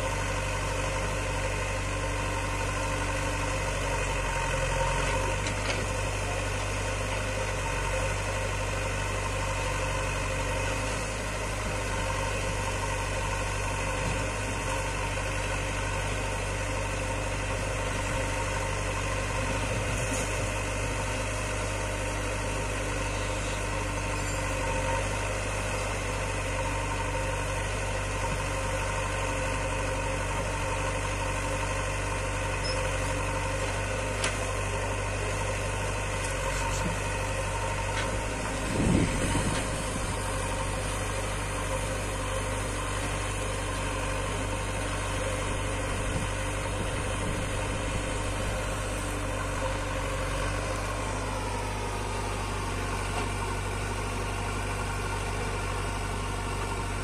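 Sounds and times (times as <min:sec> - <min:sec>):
diesel engines idling: 0:00.0 - 0:57.0.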